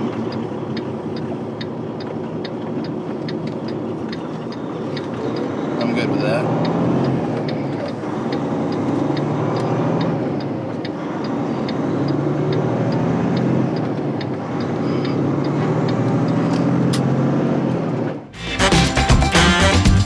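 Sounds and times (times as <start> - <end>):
diesel truck engine hum: 0.0 - 17.3.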